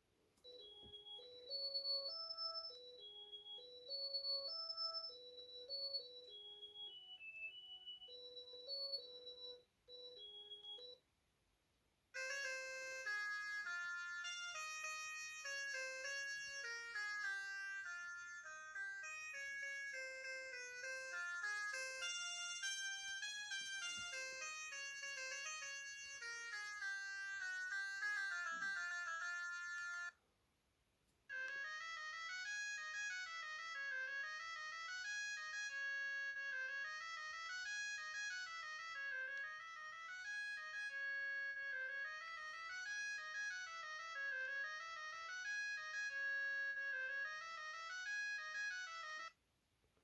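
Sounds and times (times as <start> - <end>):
electronic phone ringtone melody: 0.4 - 11.0, 12.2 - 30.2, 31.3 - 49.4.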